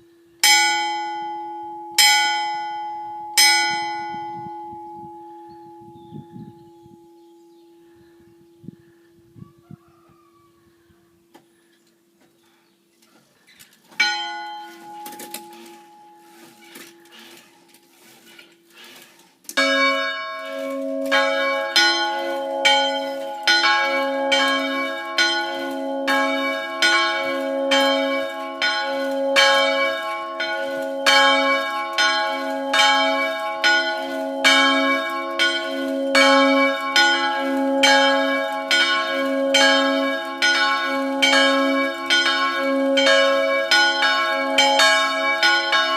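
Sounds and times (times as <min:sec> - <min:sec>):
church bells ringing: 0:00.0 - 0:08.0, 0:14.0 - 0:17.4, 0:19.6 - 0:45.9.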